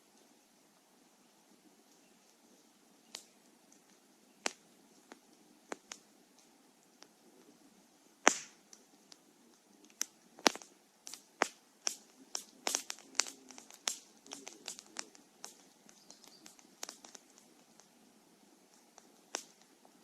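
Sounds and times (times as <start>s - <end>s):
faint low hiss: 0.0s - 20.0s
wood fire crackling and popping: 1.6s - 20.0s.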